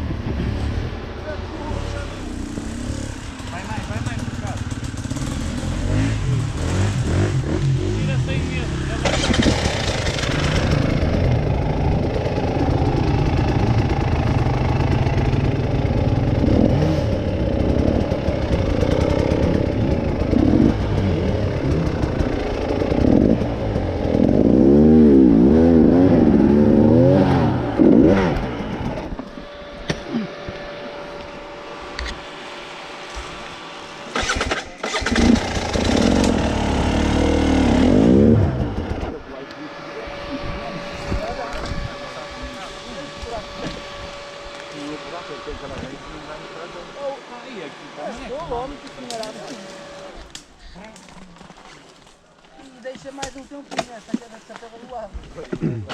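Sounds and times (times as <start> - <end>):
motorcycle engine revving: 0.0 - 52.1
thin steady engine hum: 0.0 - 55.9.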